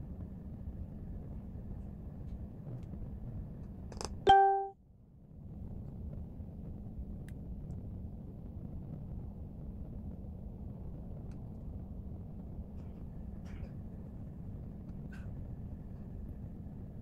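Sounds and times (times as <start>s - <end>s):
low room noise rumble: 0.0s - 17.0s.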